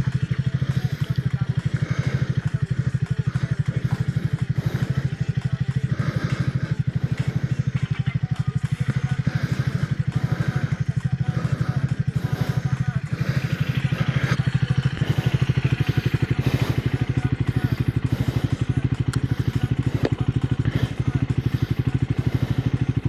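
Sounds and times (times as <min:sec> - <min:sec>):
single-cylinder engine thumping: 0:00.0 - 0:23.0.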